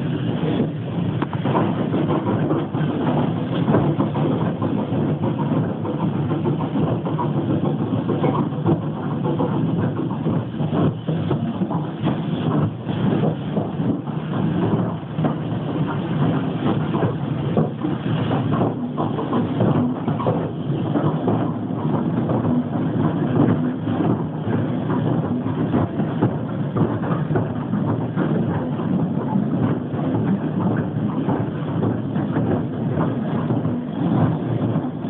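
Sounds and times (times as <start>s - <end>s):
train rumbling and wheels clattering: 0.0s - 35.0s.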